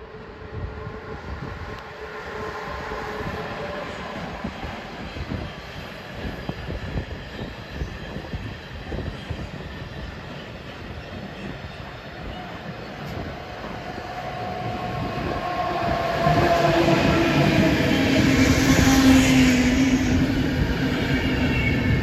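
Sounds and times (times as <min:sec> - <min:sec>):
locomotive whine: 0:00.0 - 0:22.0
train wheels rumbling on rail: 0:00.0 - 0:22.0.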